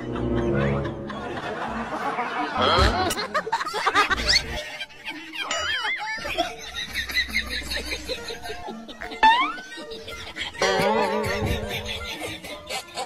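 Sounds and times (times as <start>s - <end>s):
background music: 0.0s - 13.0s
people laughing: 0.0s - 13.0s.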